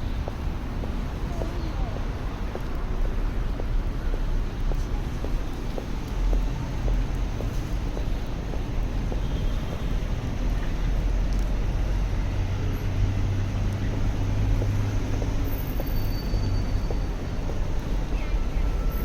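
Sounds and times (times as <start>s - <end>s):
street traffic rumble: 0.0s - 19.0s
vehicle engine hum: 0.0s - 19.0s.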